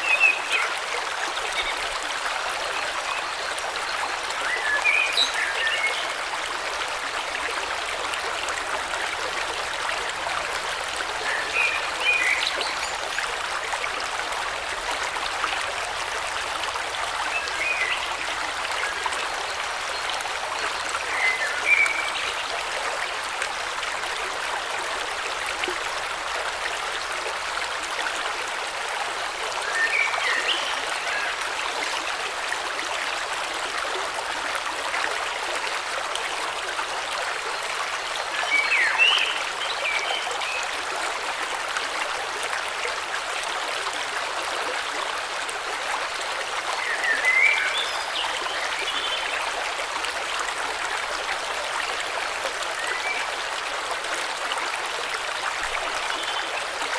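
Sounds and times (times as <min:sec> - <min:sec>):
stream flowing: 0:00.0 - 0:56.9.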